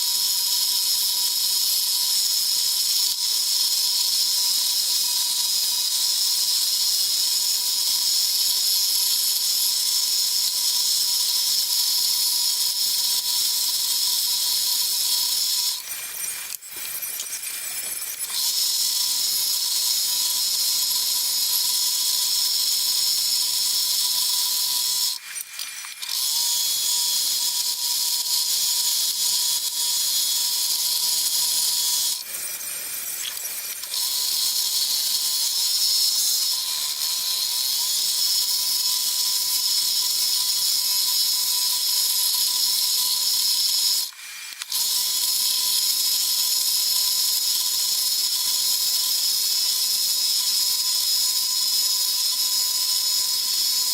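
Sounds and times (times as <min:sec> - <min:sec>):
scroll saw cutting wood: 0:00.0 - 0:53.9.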